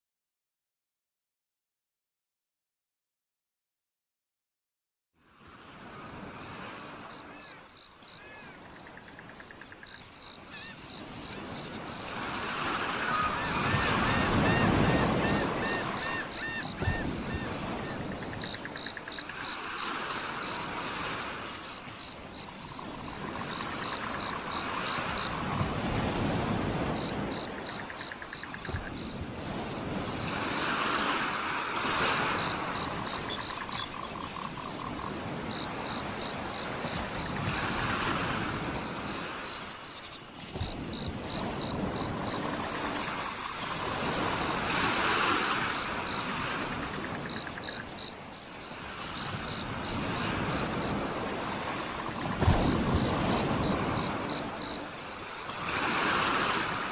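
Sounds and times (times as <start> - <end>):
waves washing in: 5.2 - 56.9.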